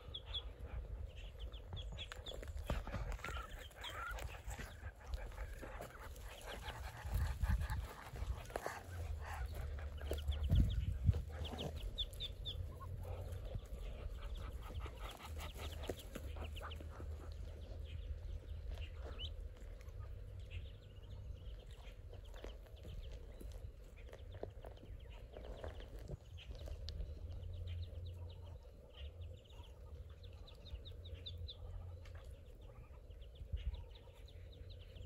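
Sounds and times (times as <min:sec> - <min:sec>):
ducklings peeping: 0:00.0 - 0:35.0
low steady rumble: 0:00.0 - 0:35.0.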